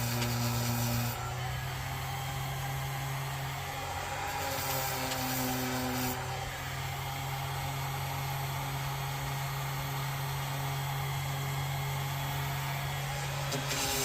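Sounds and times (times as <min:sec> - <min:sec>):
small electric motor whirring: 0:00.0 - 0:14.0.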